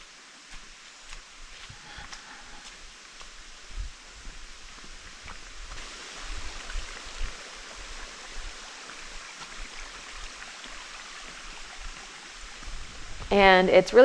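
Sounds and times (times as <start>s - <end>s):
mountain stream rushing: 0.0s - 13.6s.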